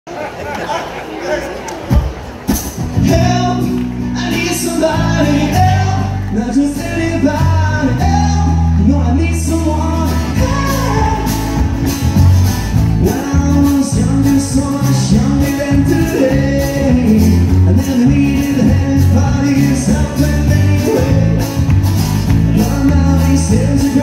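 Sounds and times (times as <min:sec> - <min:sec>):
acoustic guitar: 0:01.9 - 0:24.0
electric bass: 0:02.5 - 0:24.0
man singing: 0:03.0 - 0:11.7, 0:12.9 - 0:24.0.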